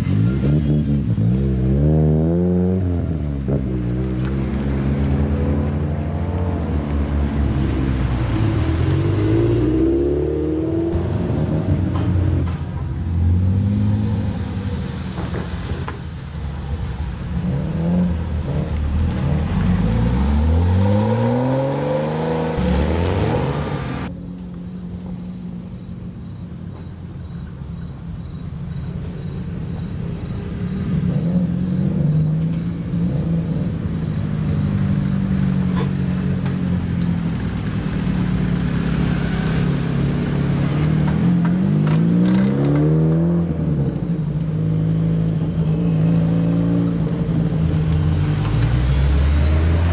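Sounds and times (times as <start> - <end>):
car revving and pulling away: 0.0 - 26.3, 28.4 - 49.9
car engines running: 0.0 - 49.9.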